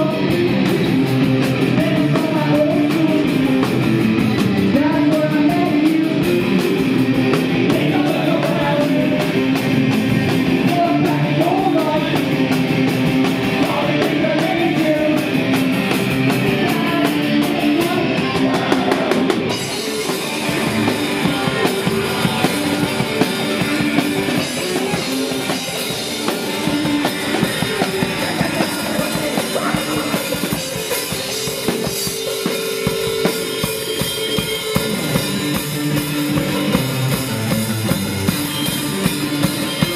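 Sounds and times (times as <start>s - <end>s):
distorted electric guitars: 0.0s - 39.9s
drum kit: 0.0s - 39.9s.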